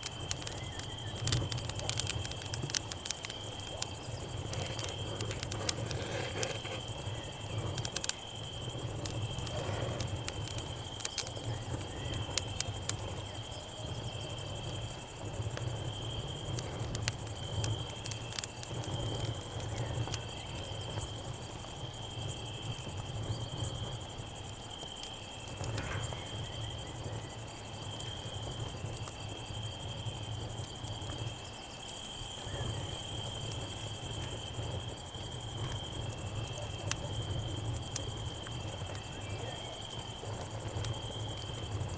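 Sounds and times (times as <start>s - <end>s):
campfire crackles: 0.0s - 24.8s, 25.4s - 41.9s
cicadas shrill hiss: 0.0s - 41.9s
cricket trill: 0.0s - 41.9s.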